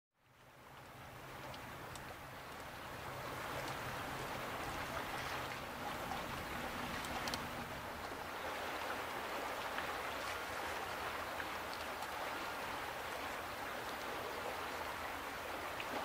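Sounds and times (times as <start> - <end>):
choppy water washing: 0.2 - 16.0
faint distant engine hum: 0.2 - 16.0.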